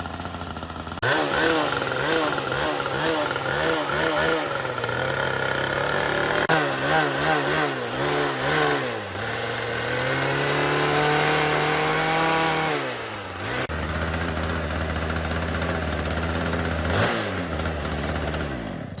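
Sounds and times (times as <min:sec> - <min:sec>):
two-stroke saw engine running: 0:00.0 - 0:19.0.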